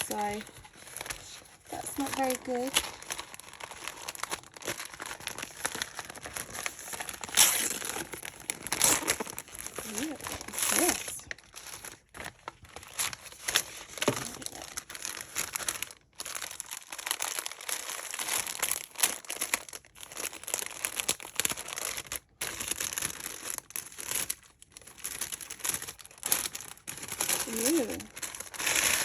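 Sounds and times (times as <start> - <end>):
paper wrapping crinkling: 0.0 - 29.0.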